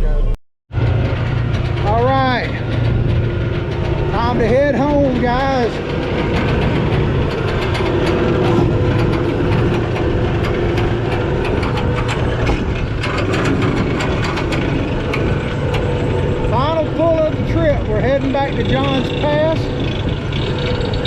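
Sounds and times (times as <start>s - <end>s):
boat engines running: 0.0s - 21.0s
rapid mechanical clicking: 0.8s - 21.0s.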